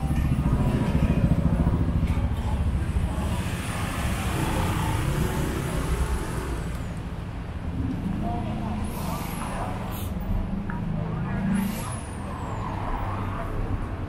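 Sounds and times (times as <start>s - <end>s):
traffic engine rumble: 0.0s - 14.0s.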